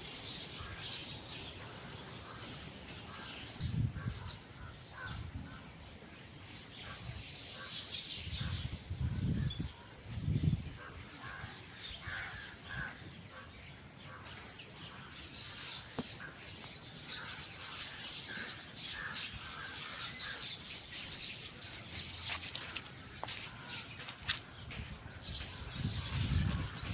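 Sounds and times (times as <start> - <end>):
birds chirping: 0.0 - 26.9
outdoor ambience: 0.0 - 26.9.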